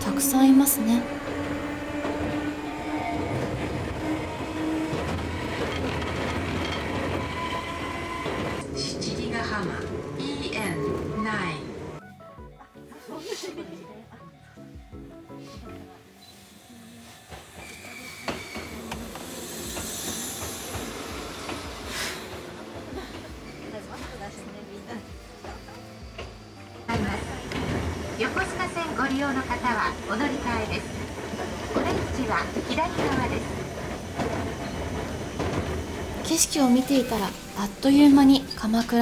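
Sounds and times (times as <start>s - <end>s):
train wheels rumbling on rails: 0.0s - 12.0s, 16.3s - 39.0s.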